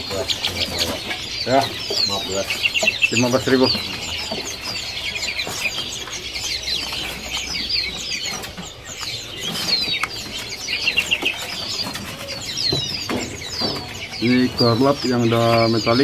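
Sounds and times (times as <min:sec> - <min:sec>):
caged songbirds chirping: 0:00.0 - 0:16.0
fluttering and clicks in cages: 0:00.0 - 0:16.0.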